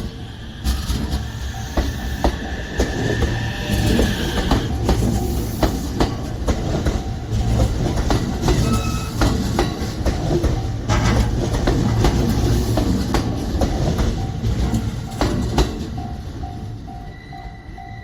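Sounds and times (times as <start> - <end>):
train wheels clacking over rail joints: 0.0 - 16.7
train rumble: 0.0 - 18.0.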